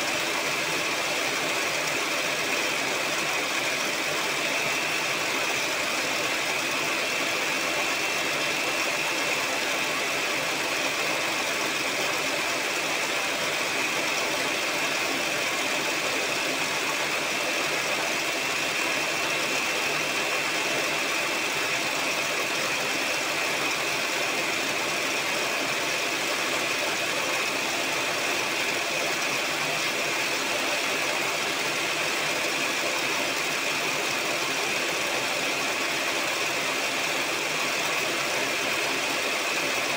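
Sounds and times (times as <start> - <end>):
electric mixer whining: 0.0 - 39.9.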